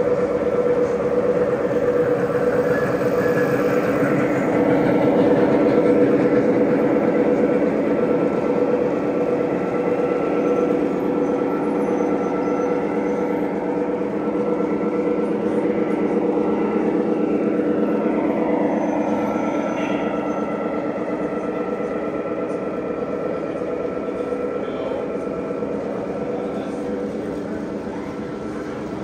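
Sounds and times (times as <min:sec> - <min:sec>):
model train humming: 0:00.0 - 0:29.0.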